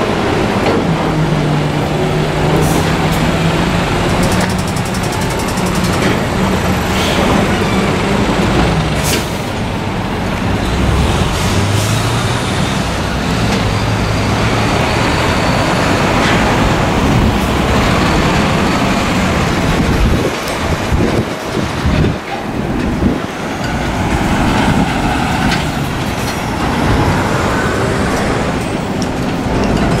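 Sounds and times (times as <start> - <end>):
diesel truck engines running: 0.0 - 30.0
rumble of truck traffic: 0.0 - 30.0.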